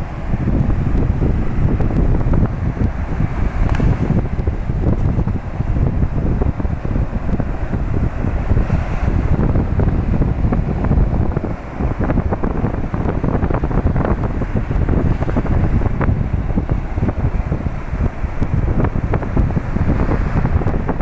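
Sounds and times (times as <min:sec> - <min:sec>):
sea surf washing: 0:00.0 - 0:21.0
wind buffeting microphone: 0:00.0 - 0:21.0.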